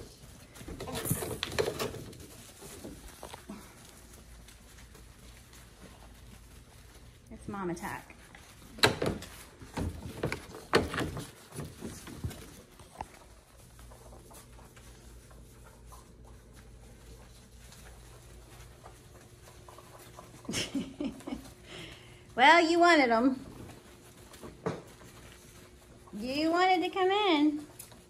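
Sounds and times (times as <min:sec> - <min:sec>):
puppies scrambling and rustling: 0:00.0 - 0:28.0.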